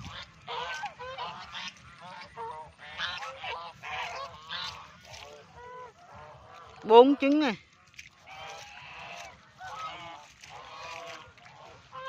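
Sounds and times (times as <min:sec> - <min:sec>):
geese honking: 0:00.0 - 0:07.2, 0:08.2 - 0:12.0.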